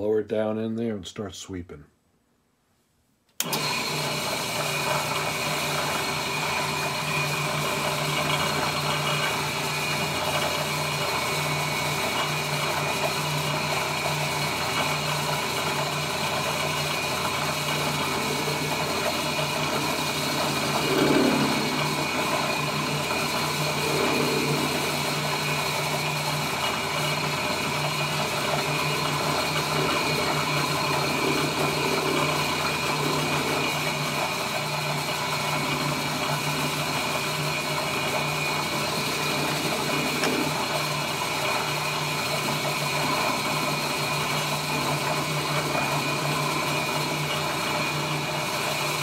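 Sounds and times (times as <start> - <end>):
cutter milling metal: 3.4 - 49.0
drill press motor hum: 3.4 - 49.0.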